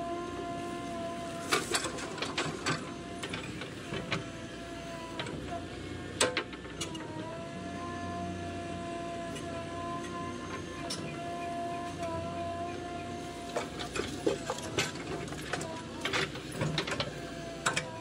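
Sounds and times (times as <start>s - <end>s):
engine and hydraulics whine: 0.0s - 18.0s.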